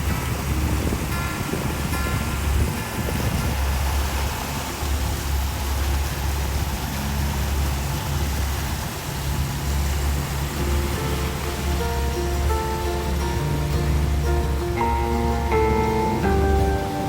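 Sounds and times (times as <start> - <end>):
motorboat engine rumbling: 0.0 - 17.0.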